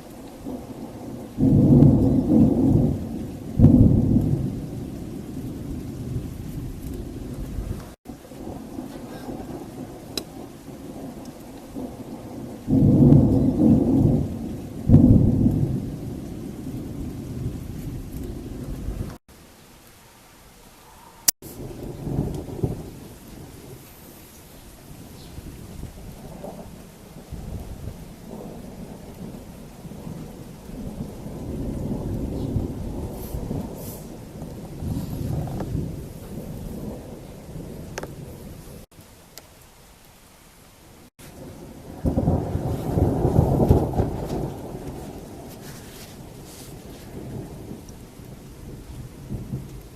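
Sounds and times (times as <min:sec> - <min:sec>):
thunder rumbling: 0:00.0 - 0:19.2, 0:20.8 - 0:38.9, 0:41.1 - 0:49.9
rain falling: 0:00.0 - 0:49.9
loud peals of thunder: 0:00.4 - 0:19.2, 0:21.5 - 0:23.8, 0:24.9 - 0:38.8, 0:41.3 - 0:49.9.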